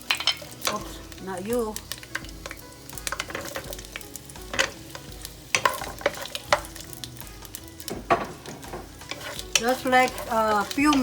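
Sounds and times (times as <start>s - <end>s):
peppers sizzling in oil: 0.0s - 11.0s
utensil scraping pan: 0.0s - 11.0s.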